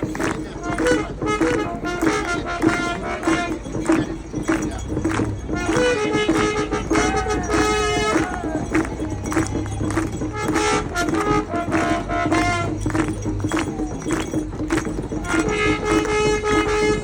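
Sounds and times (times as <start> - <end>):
long held horn-like tones: 0.0 - 17.0
steady drum beat: 0.0 - 17.0.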